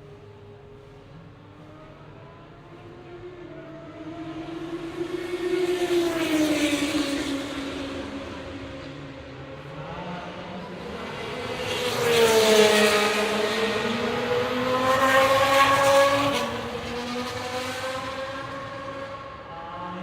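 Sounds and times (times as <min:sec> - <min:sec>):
racing car engine passing by: 0:01.4 - 0:20.0.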